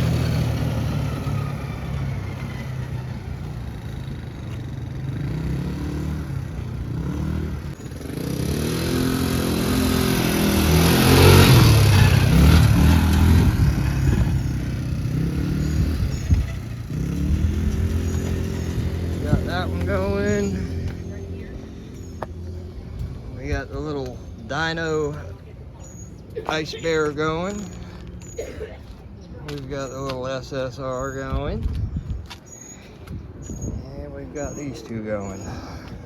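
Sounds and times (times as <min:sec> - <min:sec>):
atv engine revving: 0:00.0 - 0:28.4, 0:33.4 - 0:36.0.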